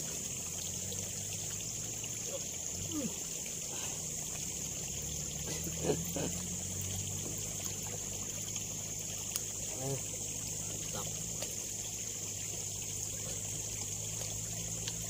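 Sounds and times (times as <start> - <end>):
water trickling in ditch: 0.0 - 15.0.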